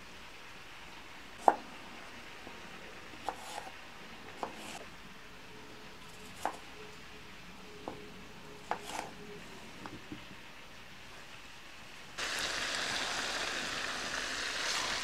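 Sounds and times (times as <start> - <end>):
faint steady hiss: 0.0 - 7.7, 8.3 - 15.0.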